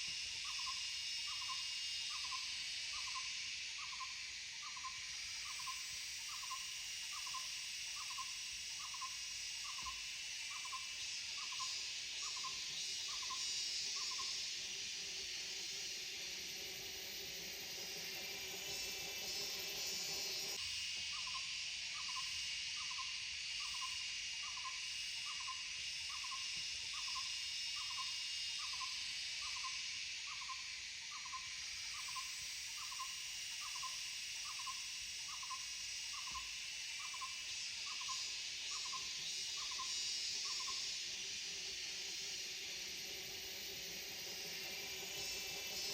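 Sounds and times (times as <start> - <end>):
high insect hiss: 0.0 - 45.9.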